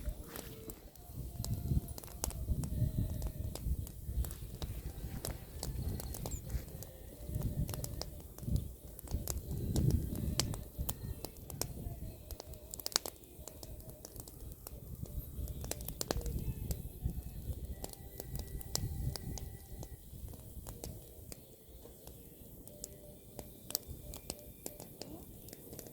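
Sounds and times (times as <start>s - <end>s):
bonfire crackling and popping: 0.0s - 25.9s
low fire rumble: 0.0s - 25.9s.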